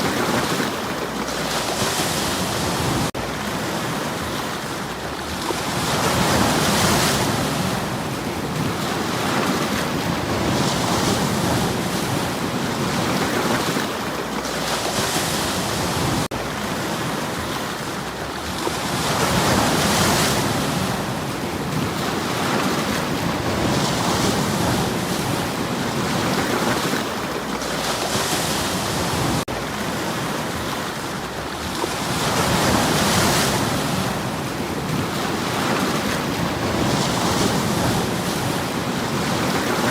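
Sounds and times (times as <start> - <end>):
rumble of surf: 0.0 - 39.9
waves breaking on stony shore: 0.0 - 39.9.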